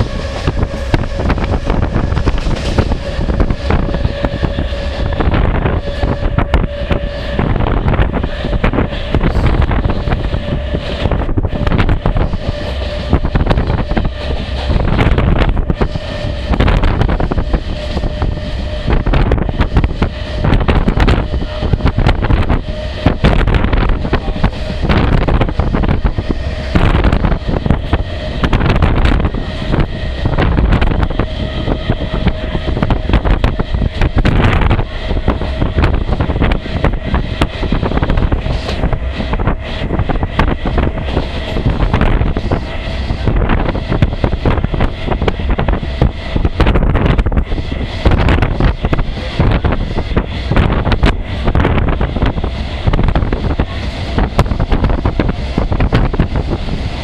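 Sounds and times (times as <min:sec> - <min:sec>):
train rumble and rattling: 0:00.0 - 0:57.0
wind buffeting microphone: 0:00.0 - 0:57.0.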